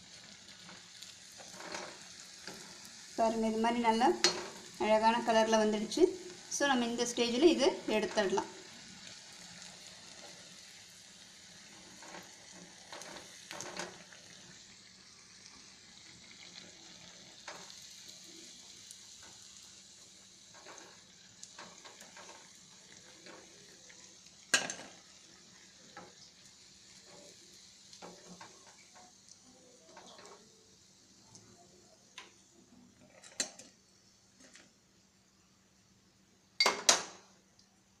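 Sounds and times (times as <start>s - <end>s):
fritters deep-frying in oil: 0.0s - 38.0s.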